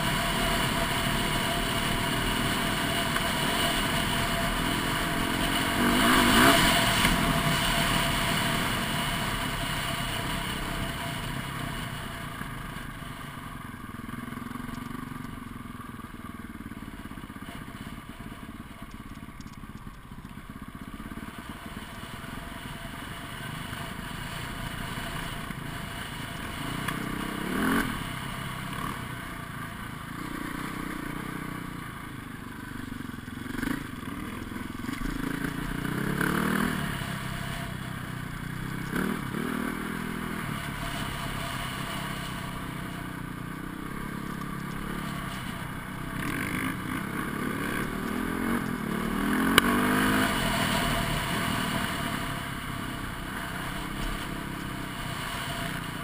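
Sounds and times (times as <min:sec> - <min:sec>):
dirt bike engine revving: 0:00.0 - 0:13.3, 0:21.1 - 0:32.0, 0:32.8 - 0:56.0.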